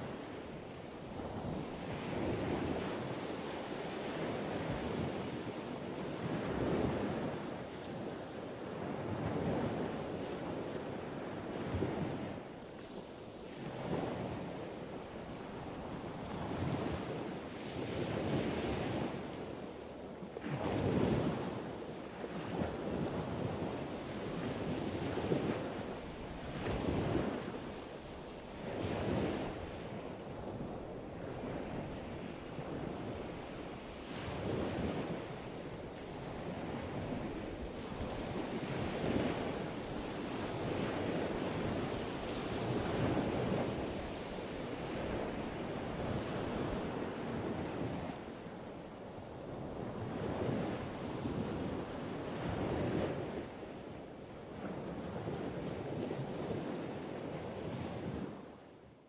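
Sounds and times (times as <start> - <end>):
wind on microphone: 0.0 - 58.7.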